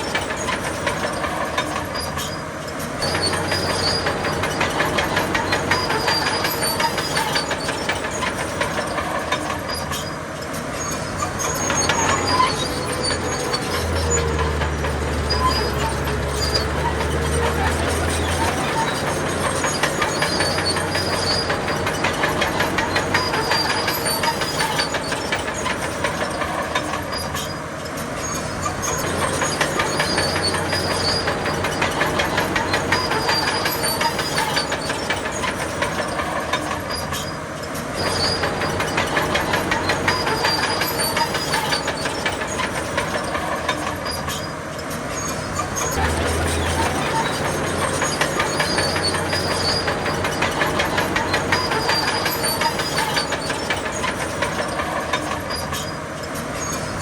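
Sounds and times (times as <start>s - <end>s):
diesel engine running: 0.0s - 57.0s
steel tracks clattering: 0.0s - 57.0s.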